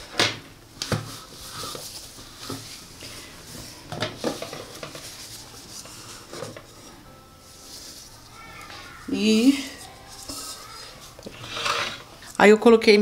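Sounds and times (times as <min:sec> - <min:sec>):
cloth rustling: 0:00.9 - 0:12.3.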